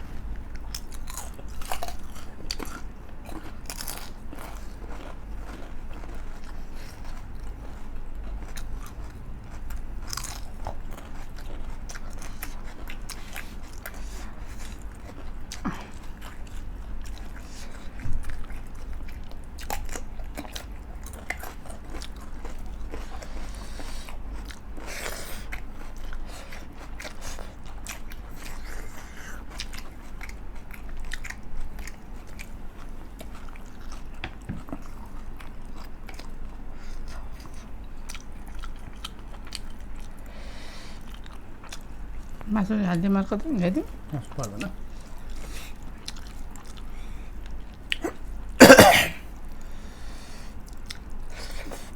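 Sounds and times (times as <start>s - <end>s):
chewing: 0.0s - 42.5s, 43.8s - 48.5s, 49.4s - 51.9s
low steady hum: 0.0s - 51.9s
food crunching: 0.2s - 40.3s, 43.6s - 48.8s, 50.6s - 51.9s.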